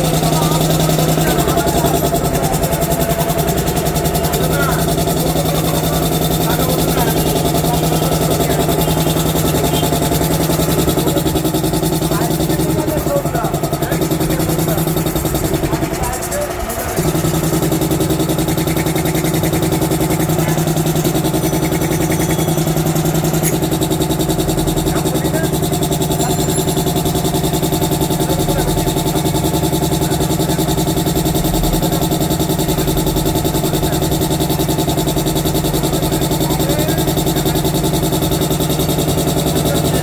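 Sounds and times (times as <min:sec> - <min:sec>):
air compressor humming: 0:00.0 - 0:40.0.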